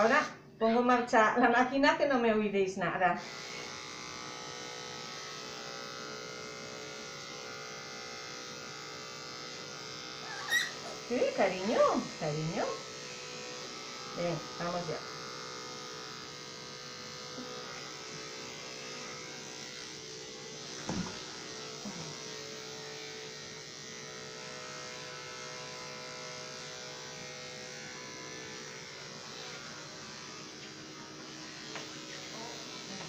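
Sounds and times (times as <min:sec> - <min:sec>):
electric clippers buzzing: 0:00.0 - 0:00.4, 0:03.0 - 0:33.0.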